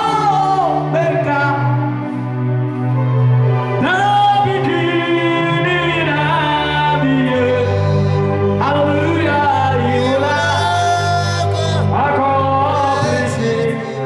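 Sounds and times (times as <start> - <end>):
gospel music on electronic keyboard: 0.0 - 14.0.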